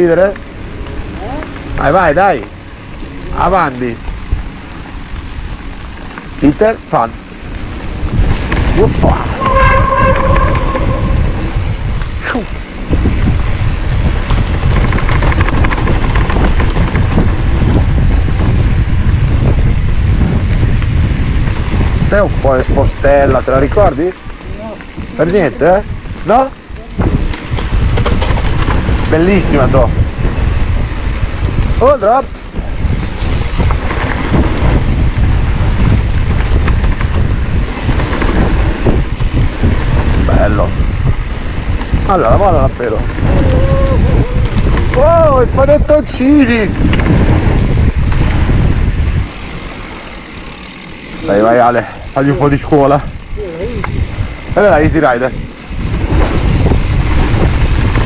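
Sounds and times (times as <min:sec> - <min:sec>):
bike rattling clicks: 0:00.0 - 0:58.0
tyres rumbling on trail: 0:00.0 - 0:58.0
wind buffeting microphone: 0:00.0 - 0:58.0.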